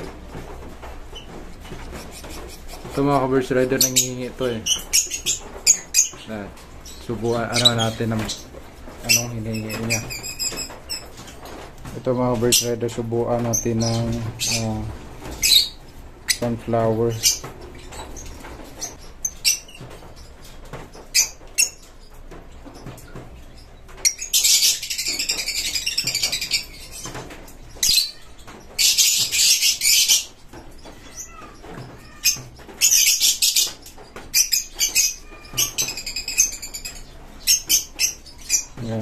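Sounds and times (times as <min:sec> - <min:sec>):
lovebirds shrill rasping calls: 0:00.0 - 0:39.0.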